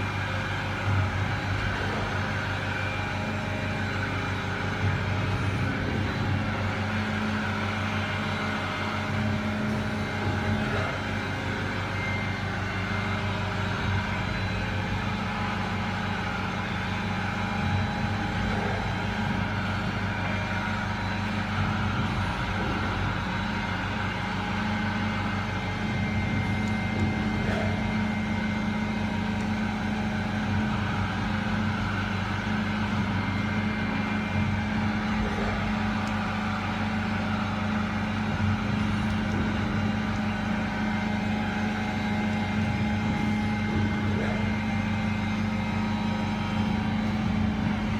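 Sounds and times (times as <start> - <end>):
grinding machine hum and whine: 0.0 - 47.9.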